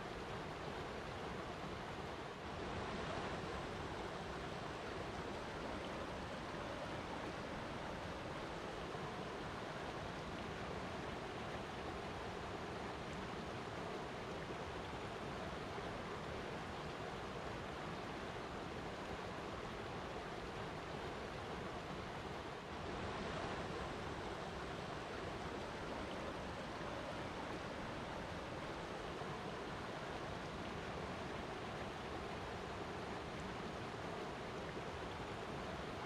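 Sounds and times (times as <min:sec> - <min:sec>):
water rushing: 0:00.0 - 0:36.0.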